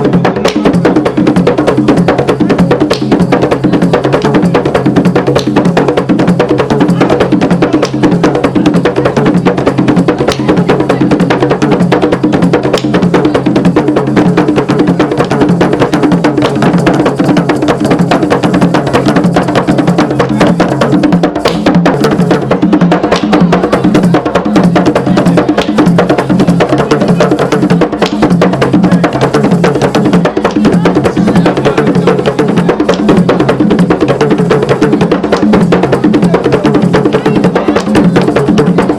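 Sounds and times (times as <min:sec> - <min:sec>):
drums: 0:00.0 - 0:38.9
wood-block-like strikes: 0:00.0 - 0:38.9.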